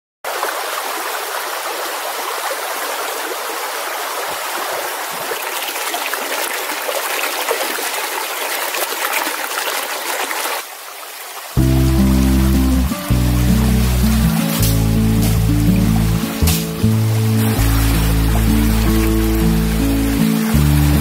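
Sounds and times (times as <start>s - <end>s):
stream flowing: 0.3s - 21.0s.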